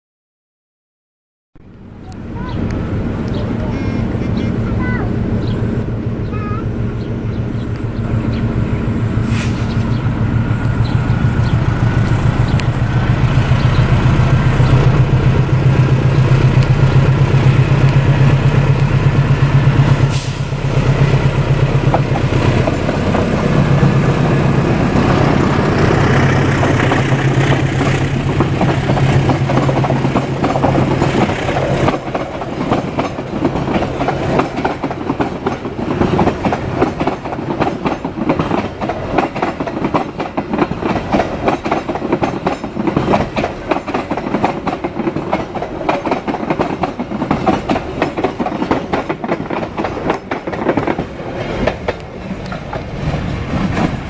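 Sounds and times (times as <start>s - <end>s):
locomotive engine rumbling: 1.6s - 54.0s
train wheels clickety-clack: 7.6s - 54.0s.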